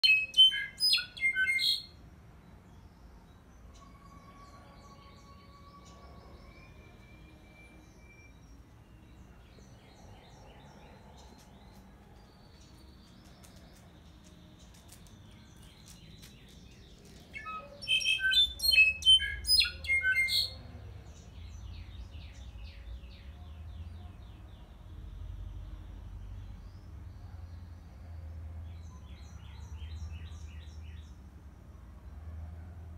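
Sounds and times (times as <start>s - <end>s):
caged bird singing: 0.0s - 31.3s.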